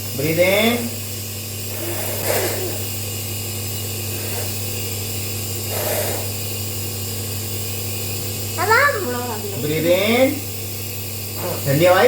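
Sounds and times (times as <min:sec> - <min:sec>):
nebulizer humming with air hiss: 0:00.0 - 0:12.0.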